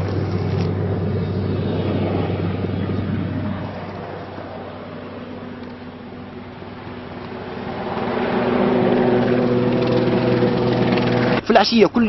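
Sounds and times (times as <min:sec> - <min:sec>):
motor humming: 0:00.0 - 0:11.5.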